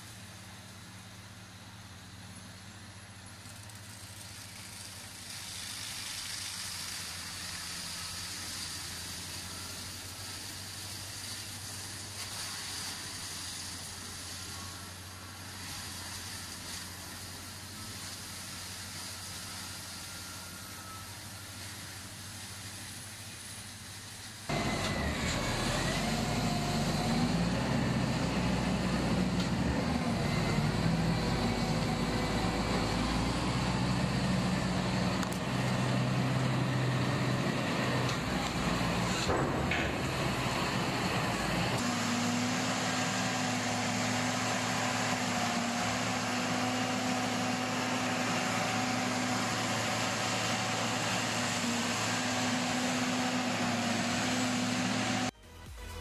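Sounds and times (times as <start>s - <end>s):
diesel engine under load: 0.0s - 55.4s.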